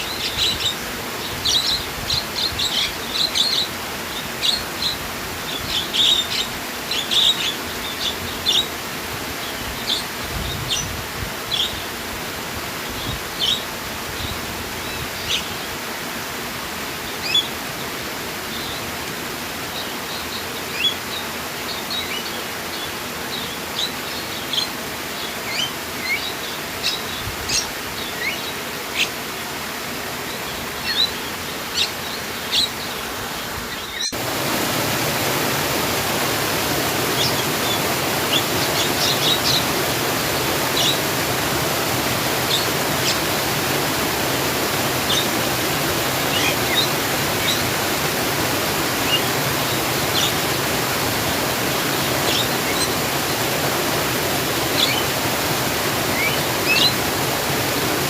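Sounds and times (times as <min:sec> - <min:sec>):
small birds chirping: 0:00.0 - 0:11.9, 0:12.9 - 0:15.8, 0:17.0 - 0:18.9, 0:19.6 - 0:29.4, 0:30.2 - 0:58.0
rushing water: 0:00.0 - 0:58.0.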